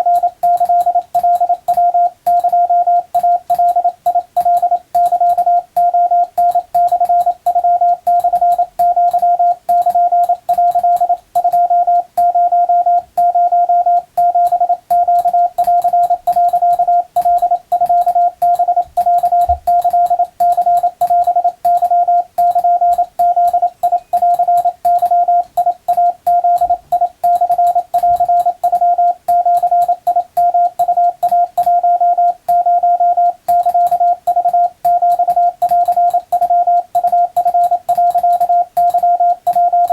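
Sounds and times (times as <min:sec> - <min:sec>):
faint keying clicks: 0:00.0 - 0:39.9
morse code tone: 0:00.0 - 0:39.9.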